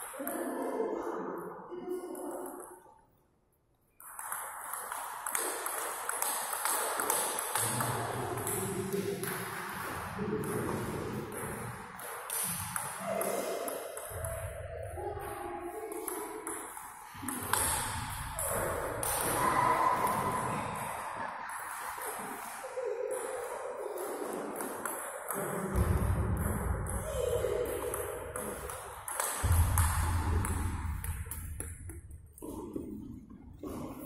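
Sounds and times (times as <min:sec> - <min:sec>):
voices in a hall: 0:00.0 - 0:03.8, 0:06.5 - 0:34.0.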